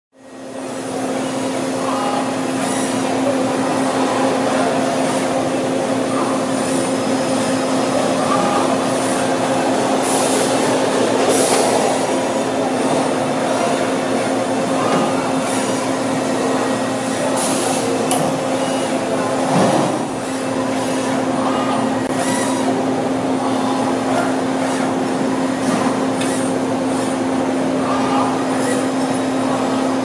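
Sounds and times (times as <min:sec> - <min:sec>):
machine hum: 0:00.2 - 0:30.0.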